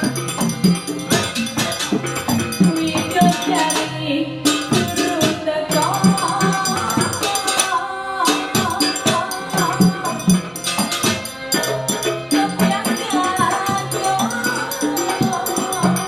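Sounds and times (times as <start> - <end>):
drum beats: 0.0 - 16.0
jingling rattling percussion: 0.0 - 16.0
wavering melody: 0.0 - 16.0.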